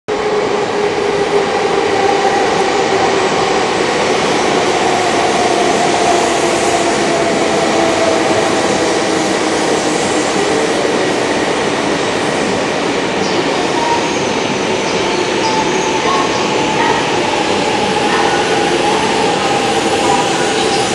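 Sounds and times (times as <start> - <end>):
train wheels rushing on rail: 0.1 - 20.9.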